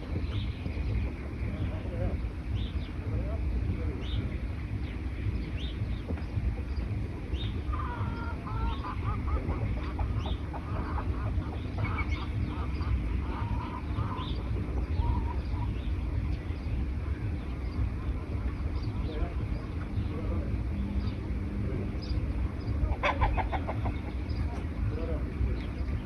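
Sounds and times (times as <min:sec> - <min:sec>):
rapid run of lower bird notes: 0:00.0 - 0:26.0
steady low rumble: 0:00.0 - 0:26.0.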